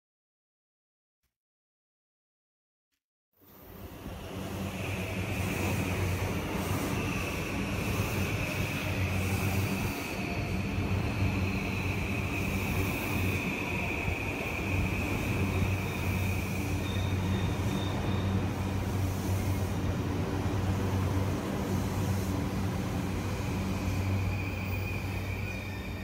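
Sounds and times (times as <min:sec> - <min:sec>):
electric train rolling and humming: 0:03.4 - 0:26.0
high whine of train: 0:03.4 - 0:26.0.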